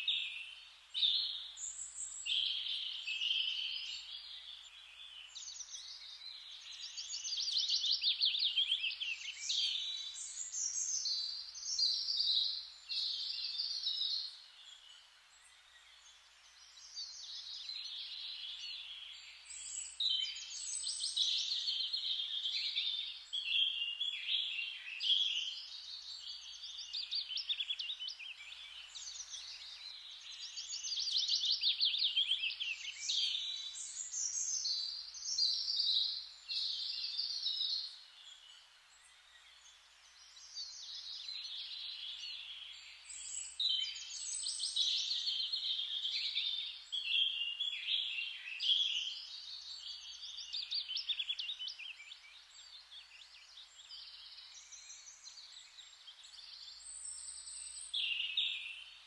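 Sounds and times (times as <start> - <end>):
songbirds trilling and chirping: 0.0 - 59.0.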